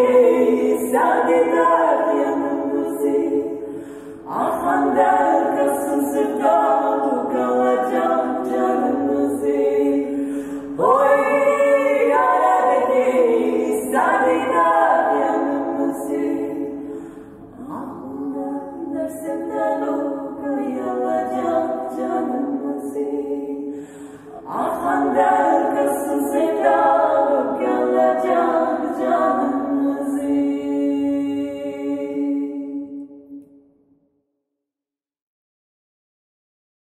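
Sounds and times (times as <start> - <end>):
women singing a cappella in harmony: 0.0 - 33.3.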